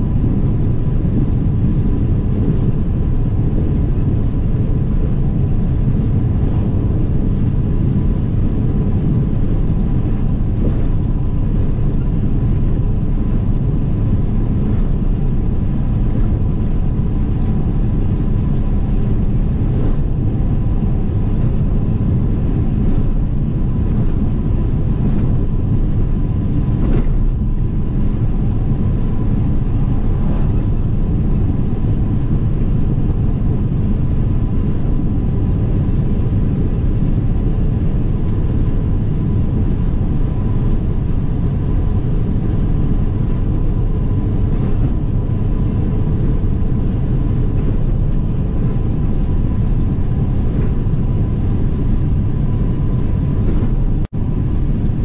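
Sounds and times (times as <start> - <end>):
car road and engine rumble: 0.0 - 55.0
faint steady whine: 0.0 - 55.0.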